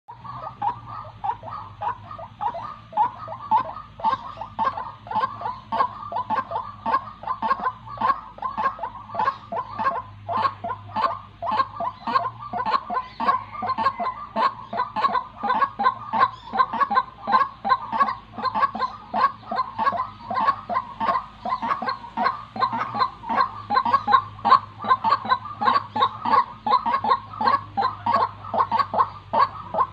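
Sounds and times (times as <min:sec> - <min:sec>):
bird repeated call notes: 0:00.1 - 0:29.9.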